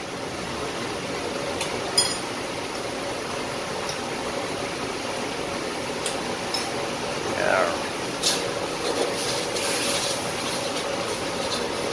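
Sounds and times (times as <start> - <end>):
extractor fan rumble: 0.0 - 11.9.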